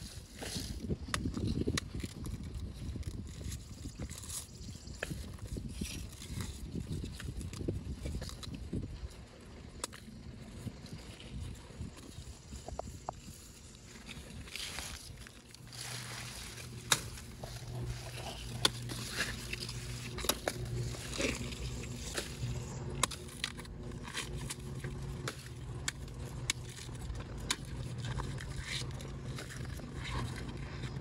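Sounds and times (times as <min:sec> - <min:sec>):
corn ears snapping: 0:00.0 - 0:09.1, 0:12.0 - 0:31.0
corn plants rustling: 0:00.0 - 0:31.0
steady low hum: 0:00.0 - 0:31.0.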